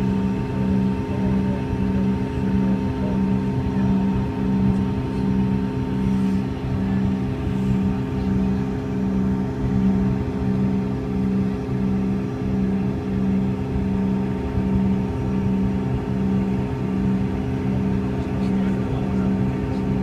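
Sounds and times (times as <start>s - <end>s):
airliner cabin engine hum: 0.0s - 20.0s.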